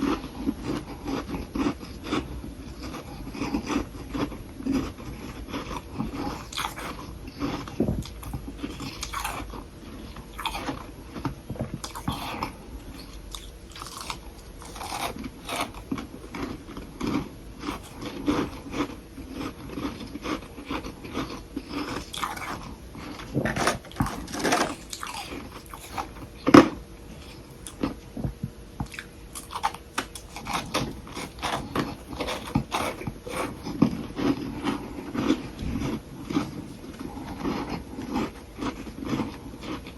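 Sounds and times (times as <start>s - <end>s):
chewing powdery crunches: 0.0s - 28.0s, 28.8s - 39.9s.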